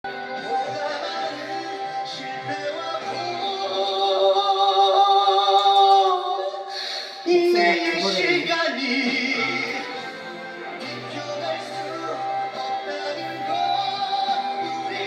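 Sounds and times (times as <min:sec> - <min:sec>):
backing music: 0:00.0 - 0:15.0
person singing a ballad: 0:00.1 - 0:15.0.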